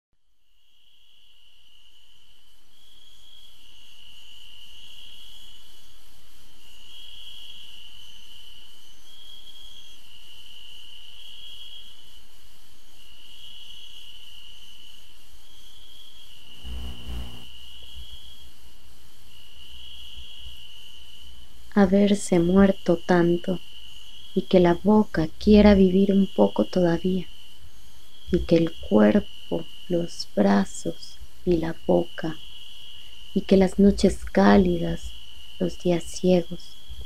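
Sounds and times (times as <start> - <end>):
crickets trilling: 0.6 - 37.0.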